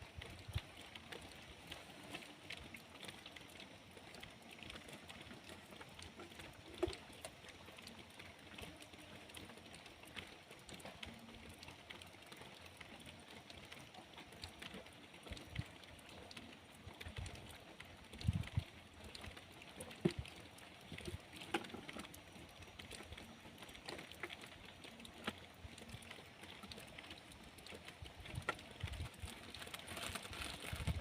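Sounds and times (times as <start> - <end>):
light rain falling: 0.0 - 31.0
raindrops ticking: 0.0 - 31.0.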